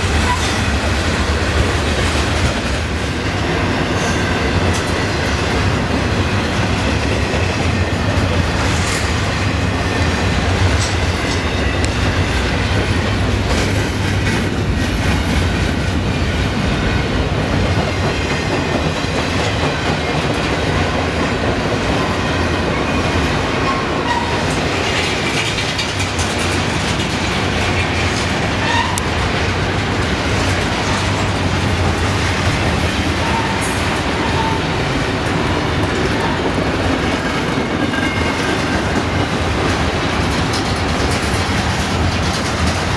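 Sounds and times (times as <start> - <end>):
clickety-clack over rail joints: 0.0 - 42.9
steel wheels rumbling on rail: 0.0 - 42.9.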